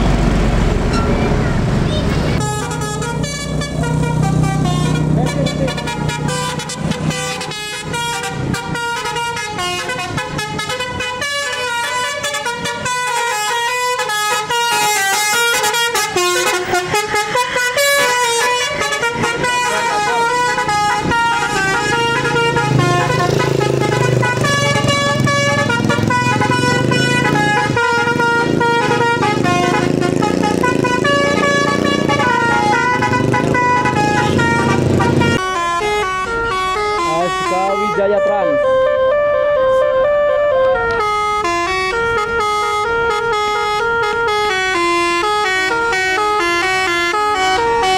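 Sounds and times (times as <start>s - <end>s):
bus air horns playing a tune: 0.9s - 47.9s.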